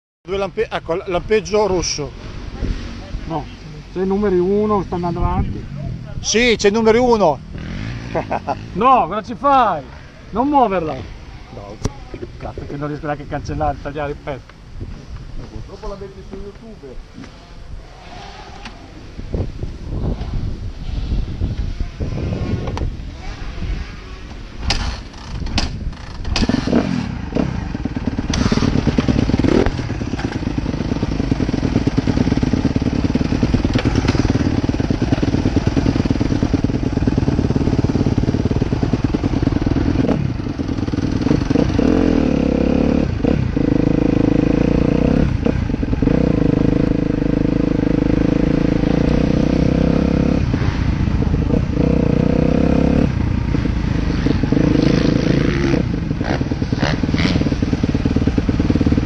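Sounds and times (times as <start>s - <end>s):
motocross bike engine revving: 2.3s - 13.0s, 17.8s - 59.0s.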